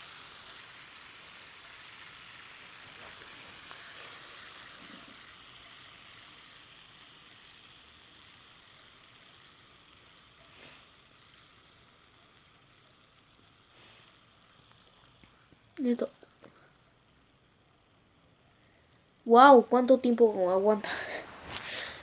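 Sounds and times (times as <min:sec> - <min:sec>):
fidget spinner whirring: 0:00.0 - 0:22.0.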